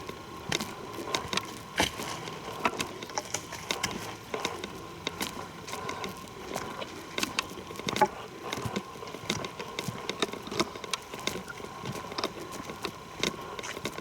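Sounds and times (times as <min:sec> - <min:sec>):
footsteps crunching on trail: 0:00.0 - 0:14.0.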